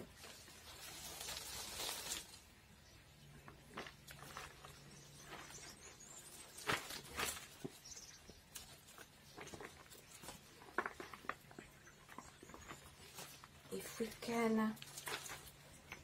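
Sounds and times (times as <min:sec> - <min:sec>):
plant rustling in plastic pot: 0:00.0 - 0:16.0.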